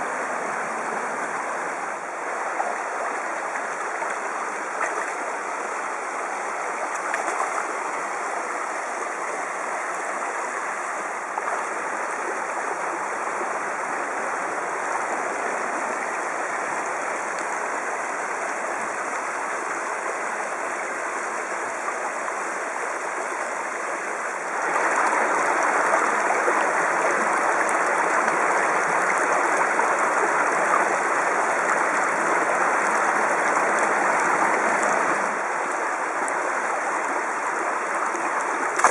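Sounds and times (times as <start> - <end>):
creek running over stones: 0.0 - 38.9.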